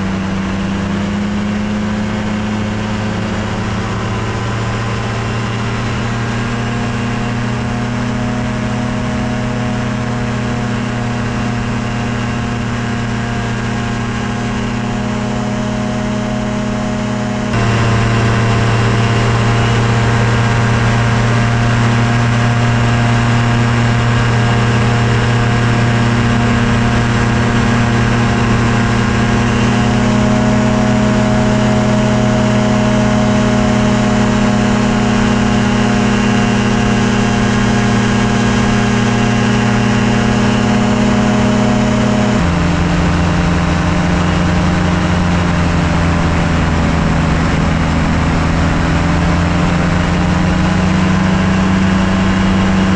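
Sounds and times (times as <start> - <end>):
ultralight airplane engine running: 0.0 - 52.9.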